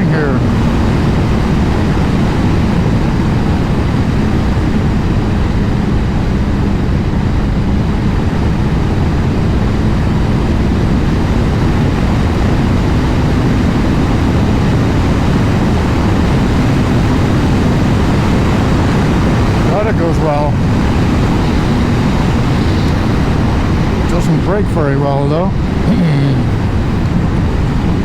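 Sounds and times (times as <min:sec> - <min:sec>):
heavy wind noise: 0:00.0 - 0:28.0
motorcycle engine running: 0:00.0 - 0:28.0.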